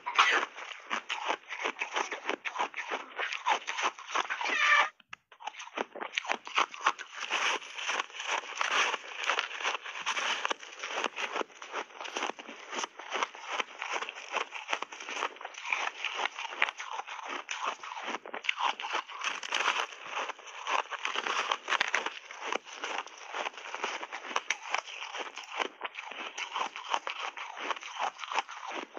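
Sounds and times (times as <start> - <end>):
ice crunching while chewed: 0.0 - 28.9.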